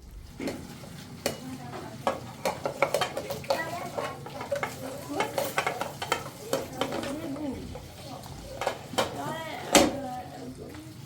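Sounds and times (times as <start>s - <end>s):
utensil clinking against pot: 0.4s - 10.0s.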